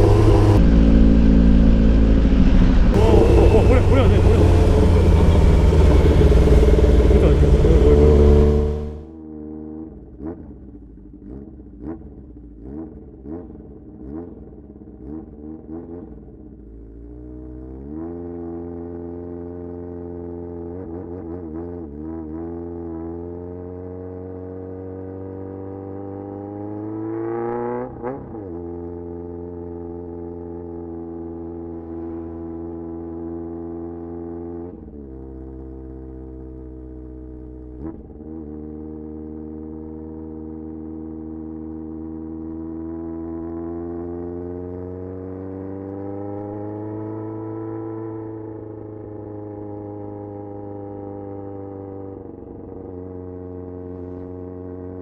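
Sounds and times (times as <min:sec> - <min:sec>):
motorcycle engine with loud exhaust: 0:00.0 - 0:55.0.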